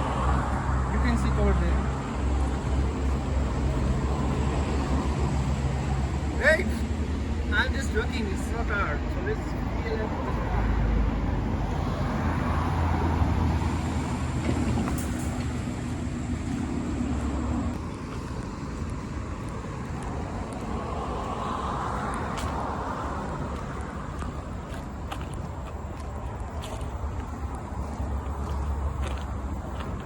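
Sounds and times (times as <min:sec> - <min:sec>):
faint steady traffic: 0:00.0 - 0:30.0
vehicle engine and tyre rumble: 0:00.0 - 0:30.0.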